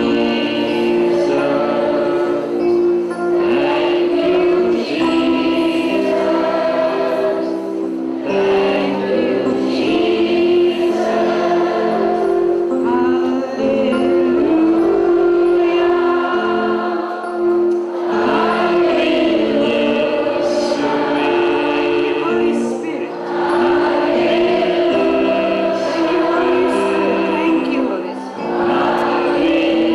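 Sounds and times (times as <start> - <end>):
choir singing slowly: 0.0 - 29.9.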